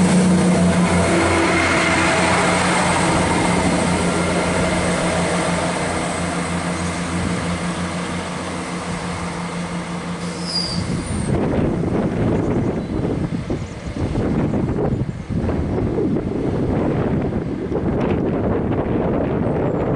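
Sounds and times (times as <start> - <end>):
diesel train engine drone: 0.0 - 19.9.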